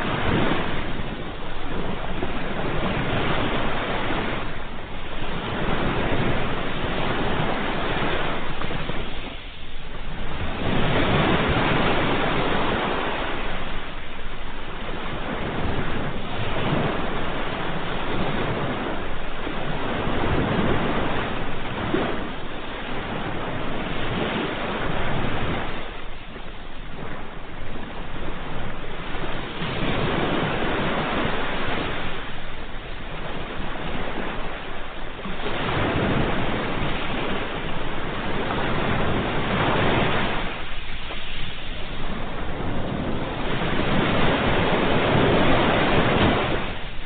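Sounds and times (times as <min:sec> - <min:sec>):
ocean waves breaking on shore: 0:00.0 - 0:47.0.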